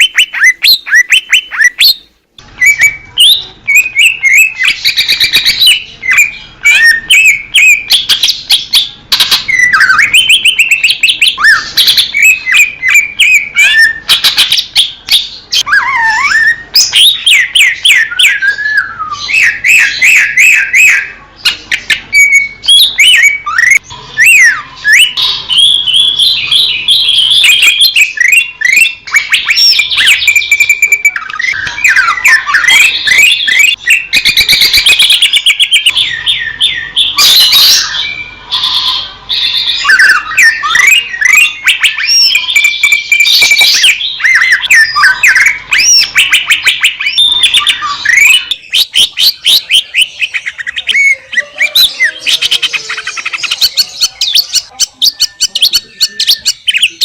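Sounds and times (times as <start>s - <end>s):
bird singing whistled notes: 0.0s - 57.0s.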